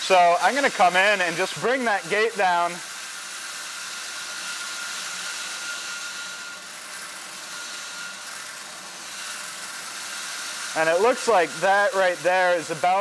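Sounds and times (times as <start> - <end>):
vacuum motor running: 0.0 - 13.0.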